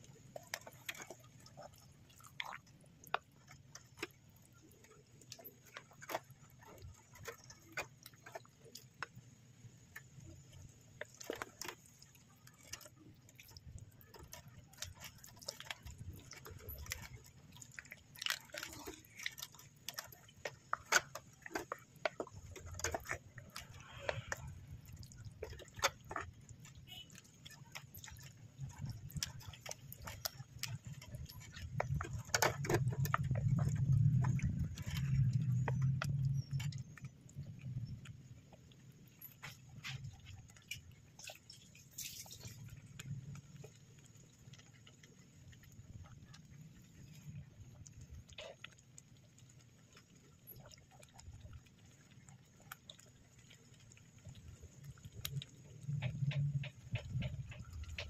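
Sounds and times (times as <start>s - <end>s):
sauce bubbling with small pops: 0.0s - 58.0s.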